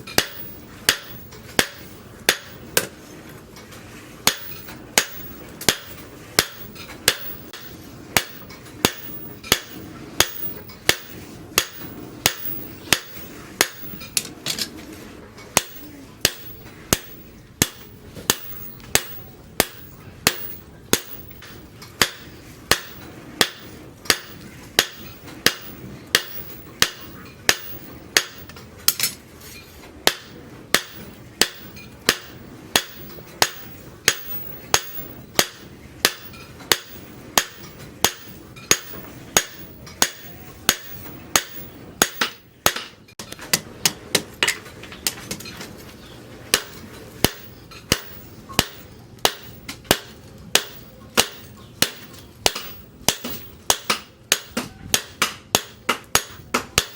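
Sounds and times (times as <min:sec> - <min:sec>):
hammer striking metal on anvil: 0:00.0 - 0:03.0, 0:04.2 - 0:14.6, 0:15.6 - 0:29.2, 0:30.0 - 0:44.6, 0:46.5 - 0:56.9.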